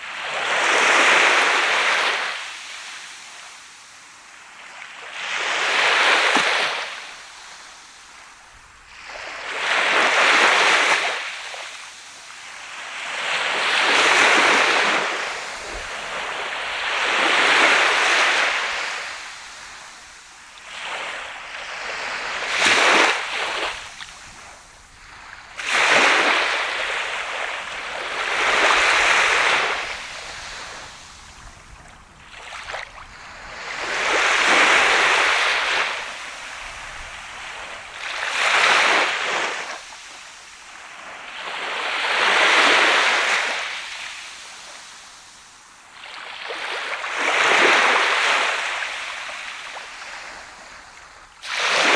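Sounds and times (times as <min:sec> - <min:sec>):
surf washing onto sandy beach: 0:05.1 - 0:51.9.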